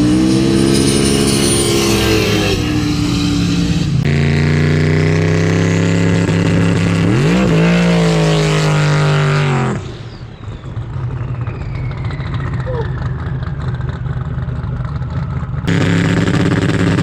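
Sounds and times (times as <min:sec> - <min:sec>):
drag car engine revving: 0:00.0 - 0:17.0.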